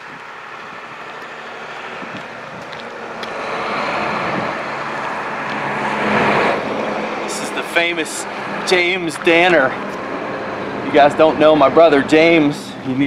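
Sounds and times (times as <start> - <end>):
road noise: 0.0 - 13.0
vehicle engine: 0.0 - 13.0.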